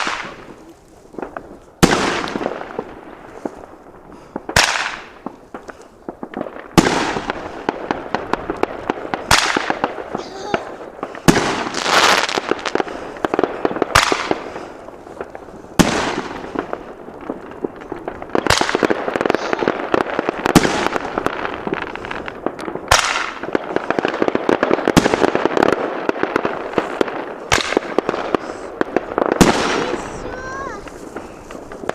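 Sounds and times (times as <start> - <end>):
crackling hiss: 0.0 - 31.9
firework shots banging: 0.0 - 31.9.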